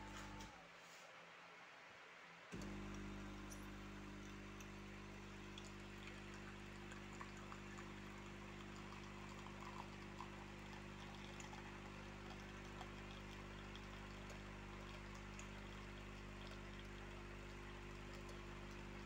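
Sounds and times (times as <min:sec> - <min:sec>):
espresso machine pump humming: 0:00.0 - 0:00.6, 0:02.6 - 0:19.0
espresso dripping into cup: 0:02.6 - 0:19.0.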